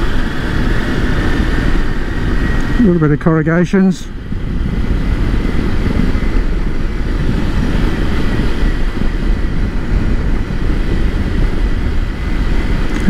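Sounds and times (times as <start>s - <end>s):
motorcycle engine: 0.0s - 13.0s
wind rumble: 0.0s - 13.0s.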